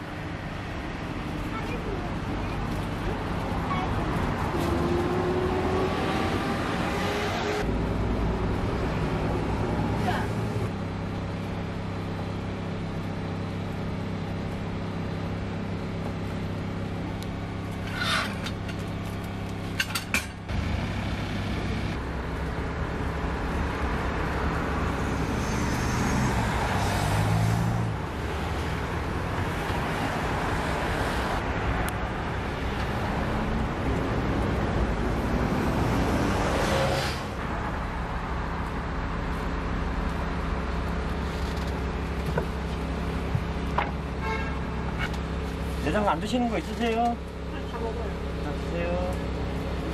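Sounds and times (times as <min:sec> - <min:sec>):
idling engines and traffic: 0:00.0 - 0:49.9.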